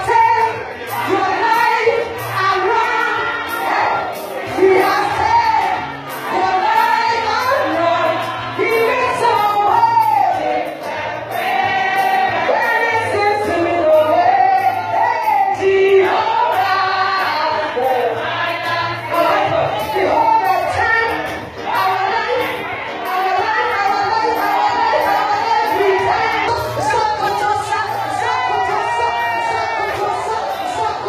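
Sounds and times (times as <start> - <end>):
gospel music with bass and beat: 0.0 - 31.0
voices singing along: 0.0 - 31.0
woman singing lead: 0.0 - 31.0.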